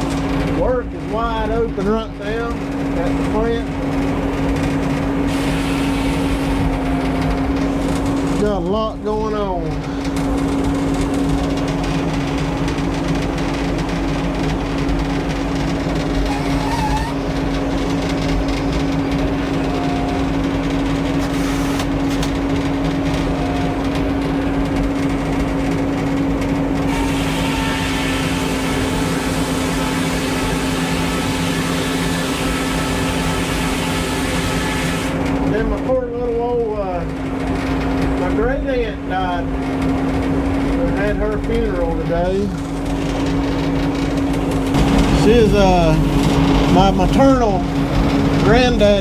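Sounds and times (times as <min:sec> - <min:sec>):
engine humming steadily: 0:00.0 - 0:49.0.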